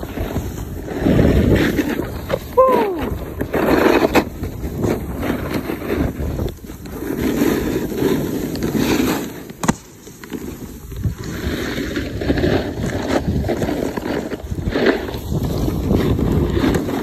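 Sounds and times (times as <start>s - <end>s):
wind on microphone: 0.0s - 8.1s, 10.8s - 17.0s
snowboard scraping snow: 0.0s - 17.0s.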